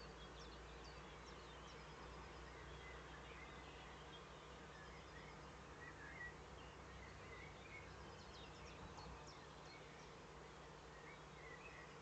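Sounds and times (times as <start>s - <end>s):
low hum and hiss: 0.0s - 12.0s
songbird chirps: 0.0s - 12.0s.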